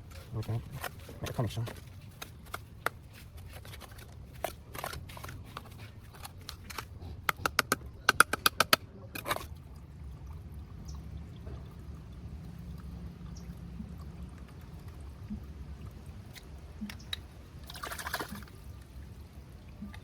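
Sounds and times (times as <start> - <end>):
faint low background noise: 0.0 - 20.0.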